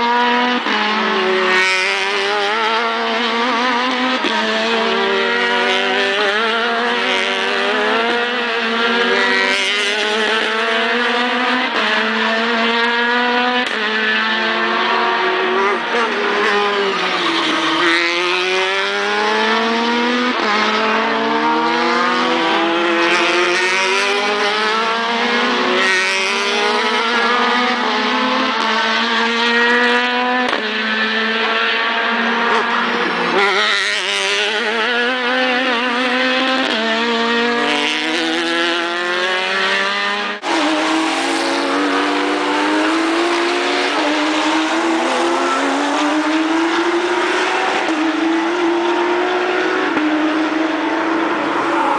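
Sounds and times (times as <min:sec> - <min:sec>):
race car engines accelerating: 0:00.0 - 0:51.9.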